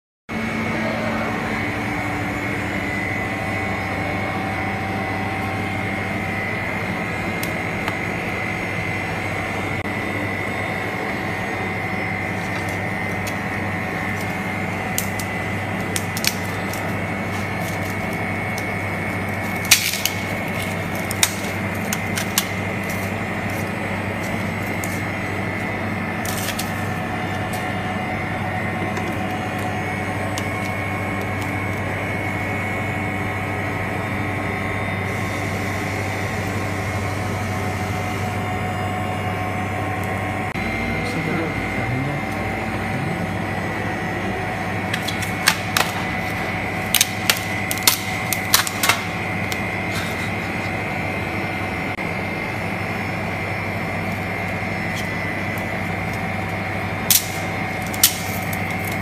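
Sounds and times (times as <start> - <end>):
refrigeration unit hum: 0.3 - 59.0.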